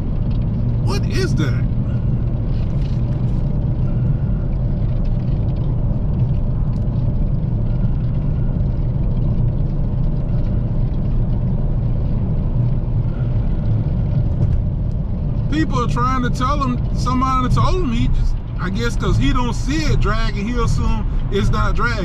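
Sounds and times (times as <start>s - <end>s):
car cabin road rumble: 0.0s - 22.0s.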